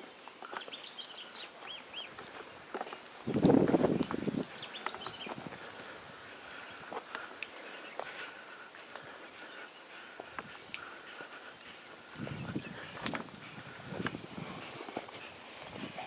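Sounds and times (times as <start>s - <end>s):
footsteps on rocks and brush: 0.0s - 9.4s, 10.0s - 16.0s
insects chirring: 0.0s - 16.0s.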